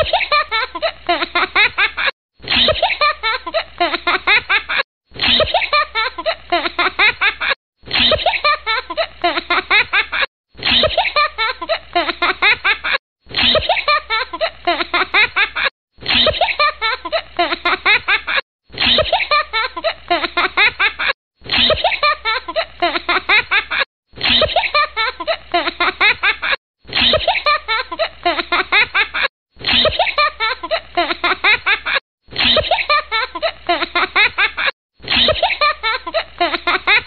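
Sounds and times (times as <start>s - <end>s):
high-pitched giggling: 0.0s - 37.0s.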